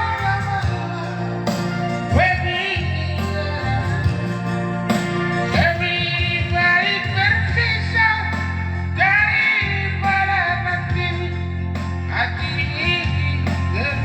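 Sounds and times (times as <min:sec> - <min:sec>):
instrumental backing music: 0:00.0 - 0:14.0
man singing: 0:00.0 - 0:14.0.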